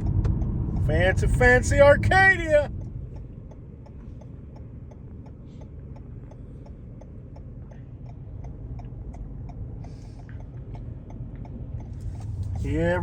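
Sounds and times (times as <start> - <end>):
engine and road hum: 0.0 - 13.0
turn signal clicking: 0.0 - 13.0.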